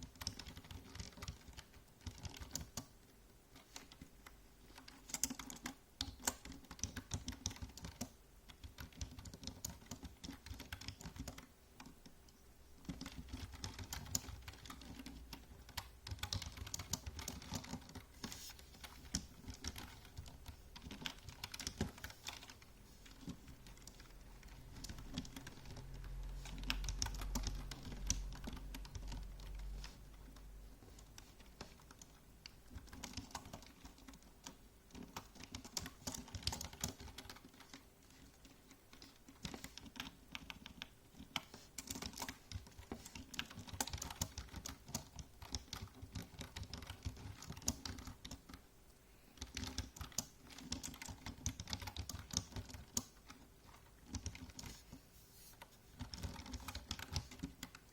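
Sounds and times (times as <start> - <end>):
typing on computer keyboard: 0.0 - 48.6, 49.3 - 55.0, 55.6 - 57.9.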